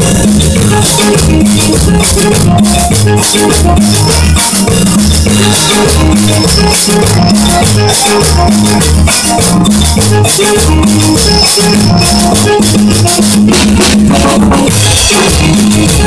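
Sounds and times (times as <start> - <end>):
drum kit beat: 0.0 - 16.0
fast rattling rhythm: 0.0 - 16.0
repeating bass line: 0.0 - 16.0.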